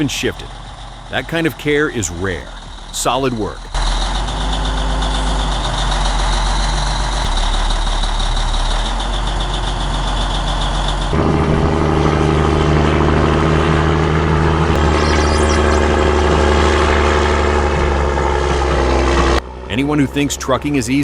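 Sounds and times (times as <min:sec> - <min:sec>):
engine at different pitch: 0:00.0 - 0:21.0
heavy vehicle engine running: 0:00.0 - 0:21.0.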